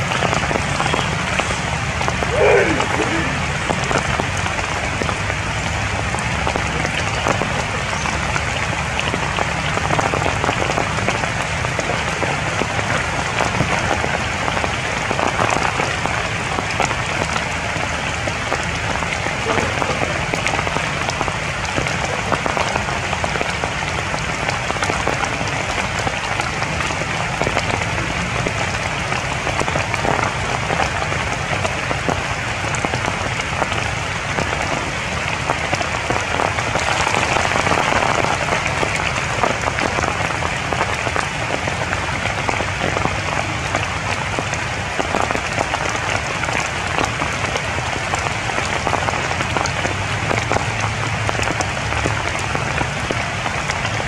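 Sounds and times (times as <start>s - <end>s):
rain pattering on leaves: 0.0s - 54.0s.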